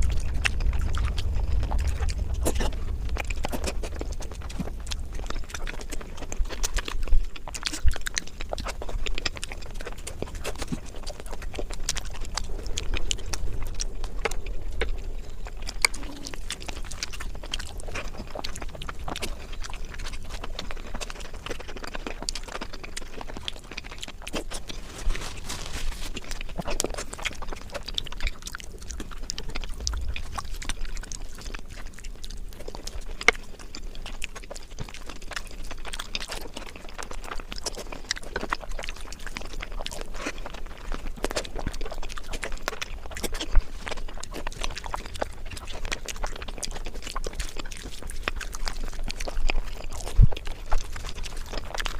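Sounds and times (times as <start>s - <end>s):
wet mouth clicks and smacks: 0.0s - 25.4s, 26.1s - 51.9s
person chewing food: 0.0s - 51.9s.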